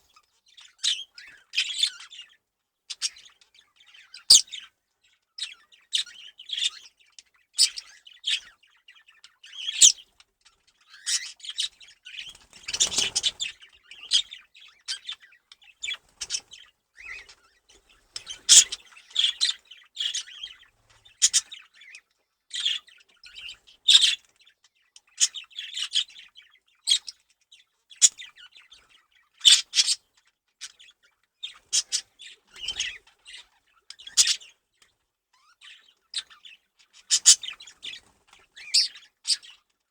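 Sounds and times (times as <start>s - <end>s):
budgerigars chattering: 0.6s - 4.7s, 5.4s - 10.1s, 10.8s - 24.3s, 28.0s - 34.6s, 35.4s - 39.6s.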